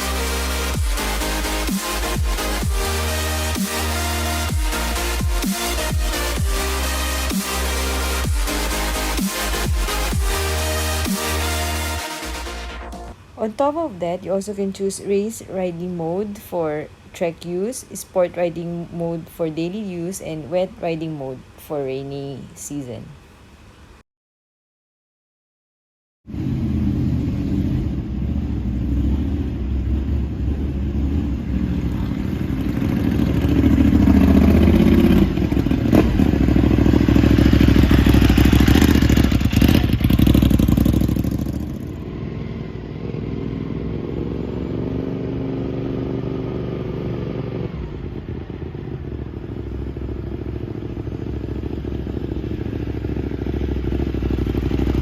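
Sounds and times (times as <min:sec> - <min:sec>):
motorcycle engine idling and revving: 0:00.0 - 0:17.0, 0:26.3 - 0:55.0.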